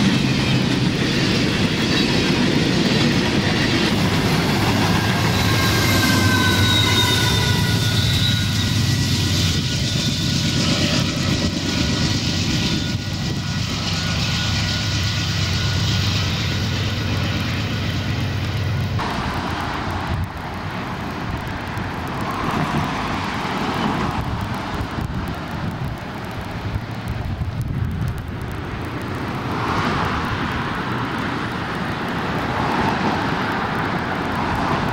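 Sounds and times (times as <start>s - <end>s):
diesel locomotive engine rumbling: 0.0s - 34.9s
road traffic passing: 0.0s - 34.9s.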